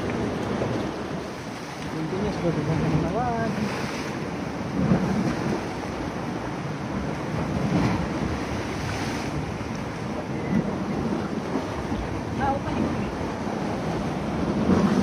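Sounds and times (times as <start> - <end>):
sea waves washing against rocks: 0.0 - 15.0
wind on microphone: 0.0 - 15.0.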